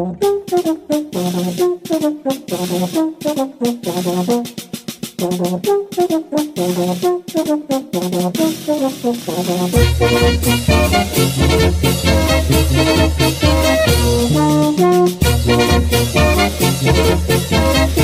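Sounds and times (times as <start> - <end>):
brass band horns playing: 0.0 - 18.0
light percussion: 0.2 - 18.0.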